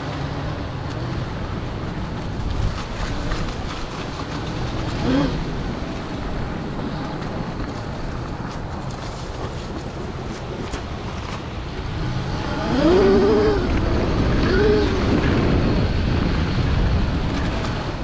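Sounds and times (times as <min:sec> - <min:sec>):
wind rush on microphone: 0:00.0 - 0:18.0.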